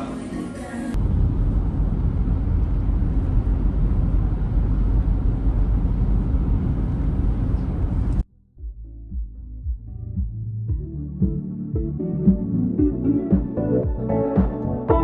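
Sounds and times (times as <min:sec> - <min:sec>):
loud low rumbling: 0:00.9 - 0:13.2.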